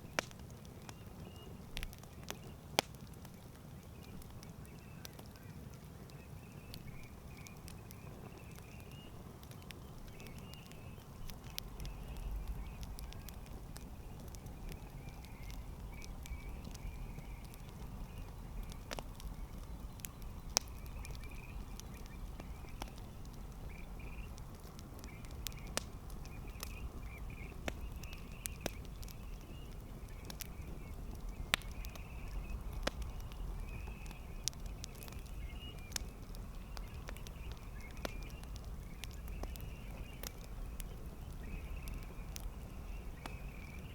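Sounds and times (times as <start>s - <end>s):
campfire crackling: 0.0s - 43.9s.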